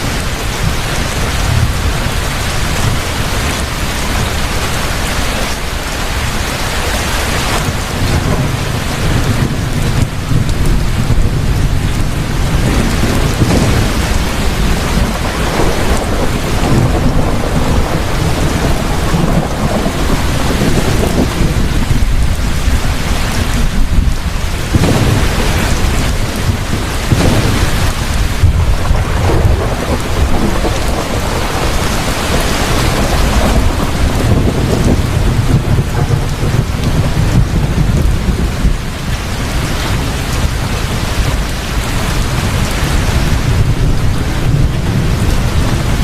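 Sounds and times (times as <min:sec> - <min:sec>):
heavy steady rain: 0:00.0 - 0:46.0
rolling thunder: 0:00.0 - 0:46.0.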